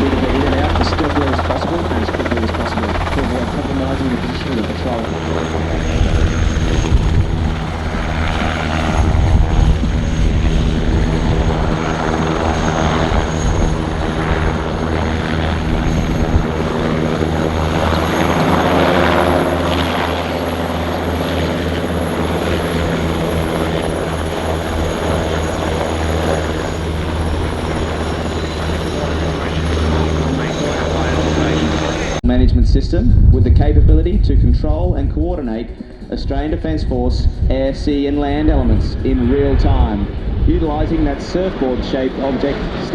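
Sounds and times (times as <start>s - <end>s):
helicopter rotors and turbines: 0.0s - 42.9s.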